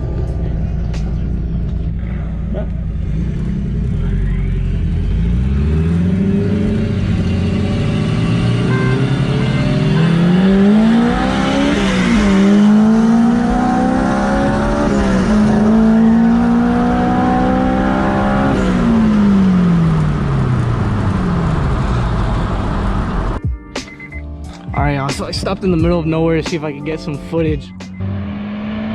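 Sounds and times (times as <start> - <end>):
car engine accelerating hard: 0.0 - 23.4, 27.4 - 28.9
wind and road noise: 0.0 - 23.4.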